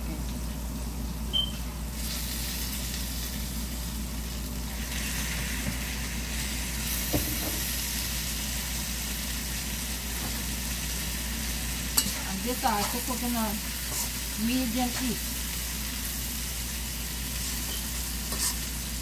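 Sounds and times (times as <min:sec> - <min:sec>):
chicken wings sizzling in oil: 0:01.9 - 0:19.0.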